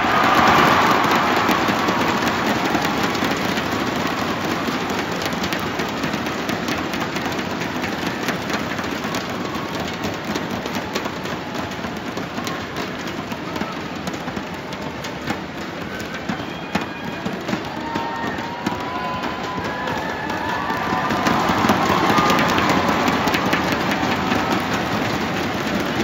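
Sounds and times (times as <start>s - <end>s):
crowd cheering and clapping: 0.0s - 26.0s.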